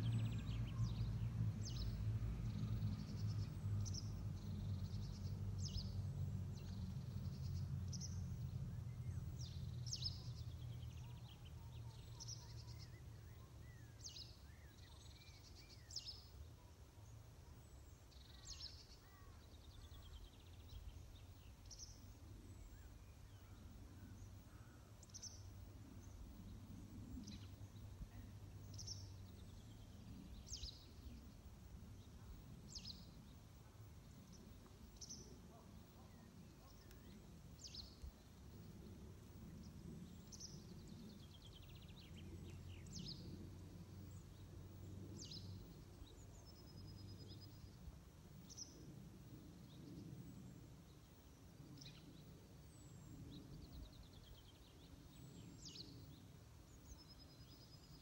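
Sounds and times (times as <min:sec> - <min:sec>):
low steady rumble: 0:00.0 - 0:19.0, 0:19.6 - 0:58.0.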